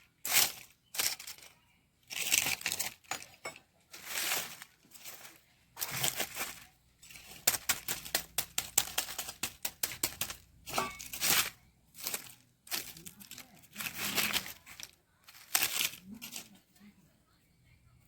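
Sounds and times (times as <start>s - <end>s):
crisp material crinkling: 0.0s - 16.9s.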